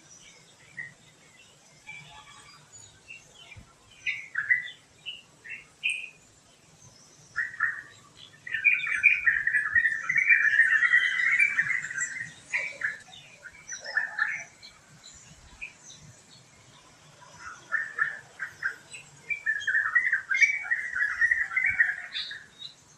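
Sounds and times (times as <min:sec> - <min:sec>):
birds chirping: 0:00.0 - 0:22.9
songbird warbling: 0:01.9 - 0:06.3, 0:06.9 - 0:16.0, 0:17.2 - 0:22.8.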